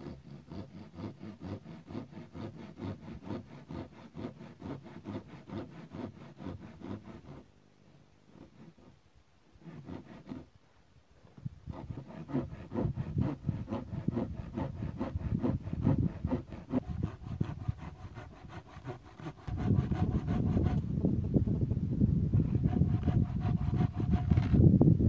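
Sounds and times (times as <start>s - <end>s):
hand saw cutting log: 0.0s - 9.0s, 9.6s - 10.5s, 11.3s - 20.9s, 22.3s - 24.7s.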